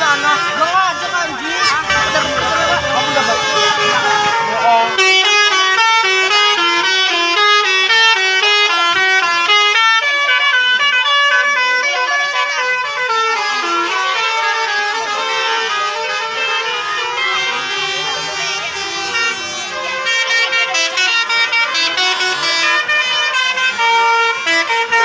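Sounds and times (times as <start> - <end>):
bus musical air horn: 0.0 - 25.0.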